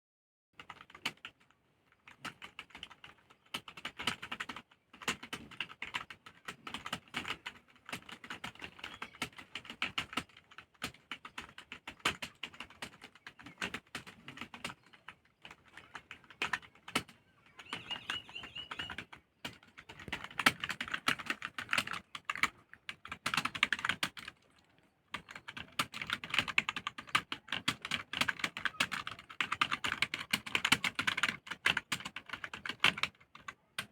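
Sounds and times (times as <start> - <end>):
fast typing on keyboard: 0.6 - 33.9.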